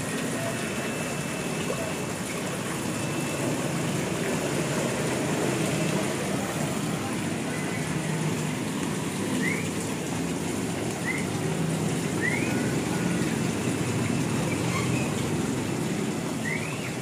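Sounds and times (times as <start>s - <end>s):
waterfall rushing into pond: 0.0s - 17.0s.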